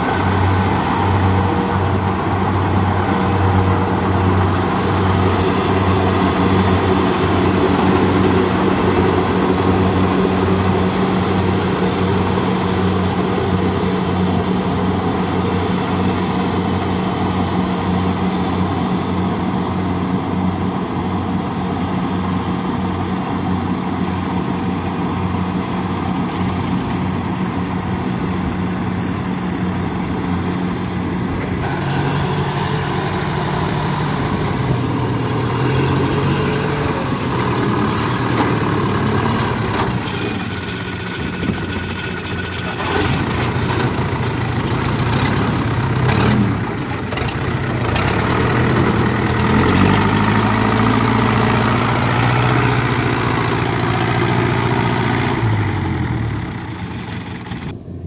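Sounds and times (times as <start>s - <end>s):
combine harvester diesel engine: 0.0s - 58.0s
small tracked carrier engine: 0.0s - 58.0s.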